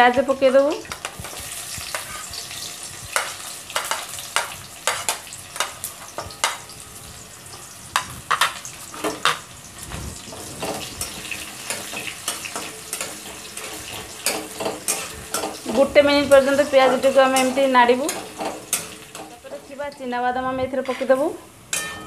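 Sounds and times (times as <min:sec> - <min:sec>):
onion sizzling in hot oil: 0:00.0 - 0:22.0
spatula scraping pan: 0:00.5 - 0:06.8, 0:07.6 - 0:19.8.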